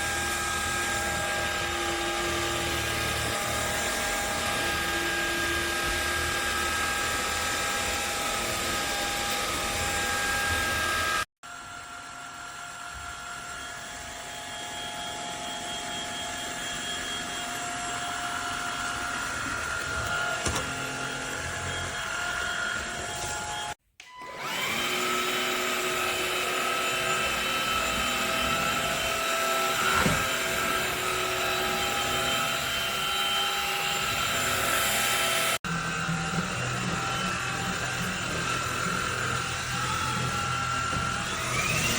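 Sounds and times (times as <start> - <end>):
vacuum cleaner motor whine: 0.0 - 41.9.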